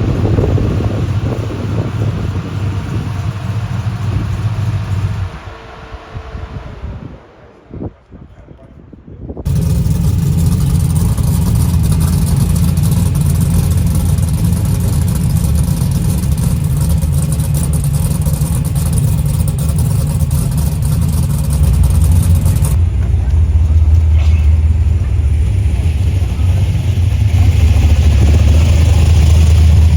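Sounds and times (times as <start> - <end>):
car engine deep rumble: 0.0 - 29.9.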